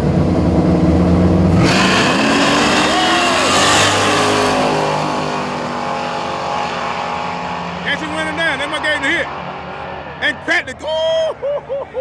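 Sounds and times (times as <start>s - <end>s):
race cars accelerating: 0.1s - 12.0s.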